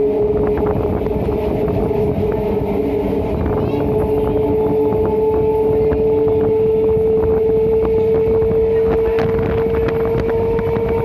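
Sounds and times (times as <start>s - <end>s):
loud steady tone: 0.0s - 11.0s
train running gear rumble: 0.0s - 11.0s.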